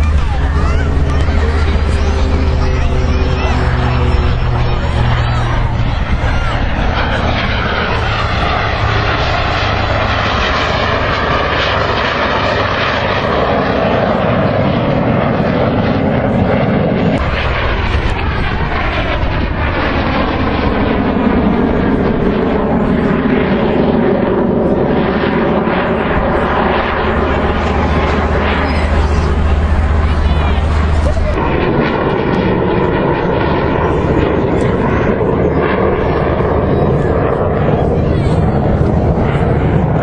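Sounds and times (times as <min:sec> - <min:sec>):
aircraft flying past: 0:00.0 - 0:40.0.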